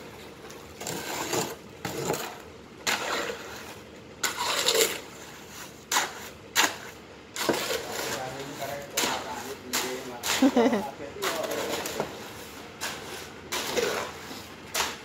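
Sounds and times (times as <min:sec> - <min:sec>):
hoe scraping wet cement: 0:00.0 - 0:15.0.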